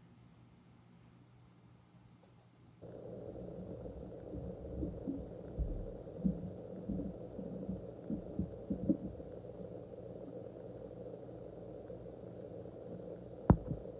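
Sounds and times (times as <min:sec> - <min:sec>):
low room hum: 0:00.0 - 0:13.9.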